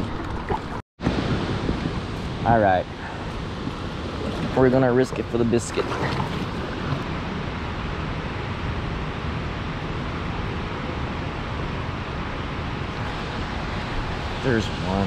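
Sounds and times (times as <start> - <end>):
churning water rushing: 0.0 - 15.0.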